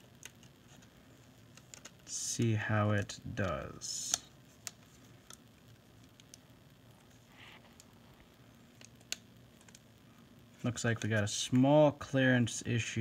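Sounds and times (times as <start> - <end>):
faint clicks of small parts: 0.0 - 2.2, 2.9 - 11.6.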